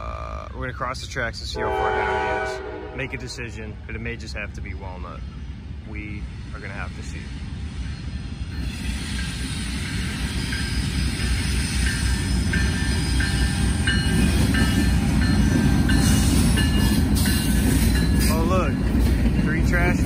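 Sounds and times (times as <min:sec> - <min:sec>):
freight train rumble: 0:00.0 - 0:20.0.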